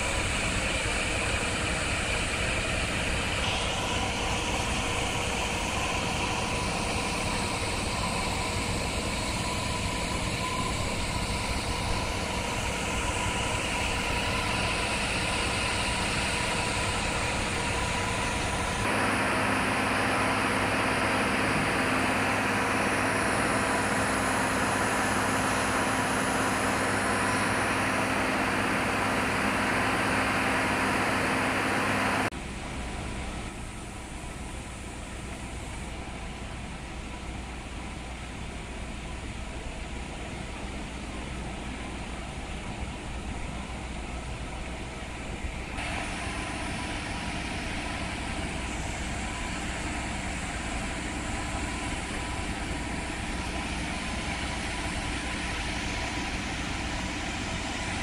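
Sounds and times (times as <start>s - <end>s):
heavy truck engines droning: 0.0s - 58.0s.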